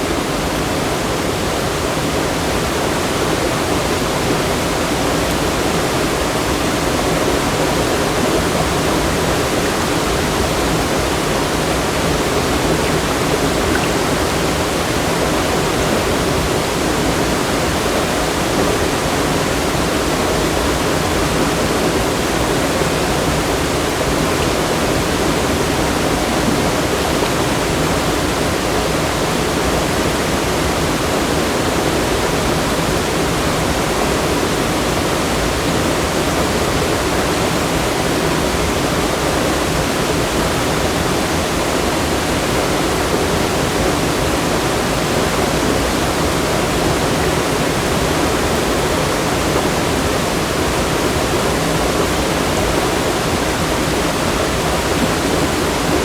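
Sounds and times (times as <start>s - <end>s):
fast-flowing water rushing: 0.0s - 56.0s.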